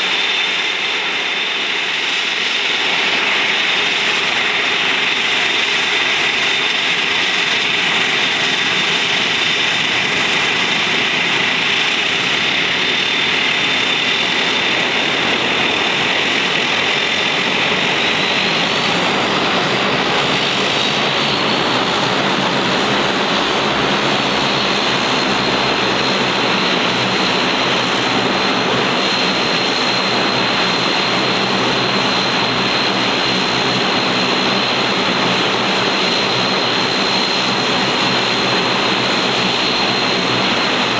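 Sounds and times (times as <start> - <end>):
propeller drone: 0.0 - 40.9
turboprop engines whining: 0.0 - 40.9.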